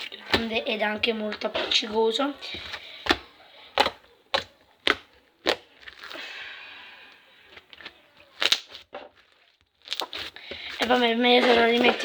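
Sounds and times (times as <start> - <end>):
sticky slime popping: 0.0 - 6.3, 7.1 - 12.0.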